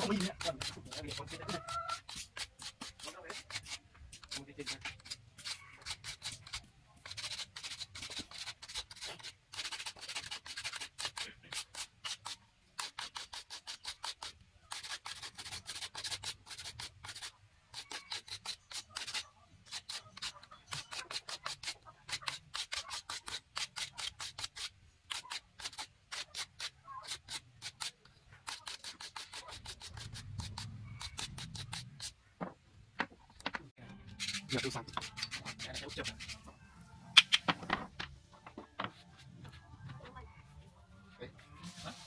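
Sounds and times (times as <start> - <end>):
metal file scraping wood: 0.0 - 32.2, 34.0 - 36.6.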